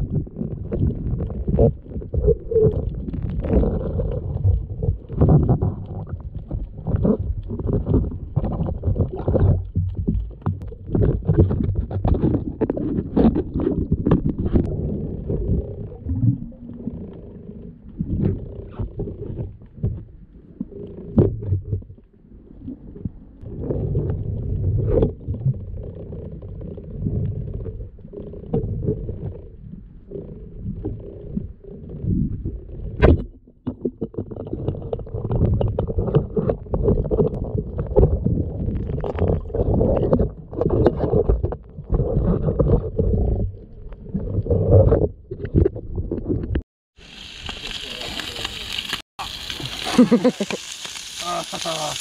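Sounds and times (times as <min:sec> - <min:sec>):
underwater water rumble: 0:00.0 - 0:52.0.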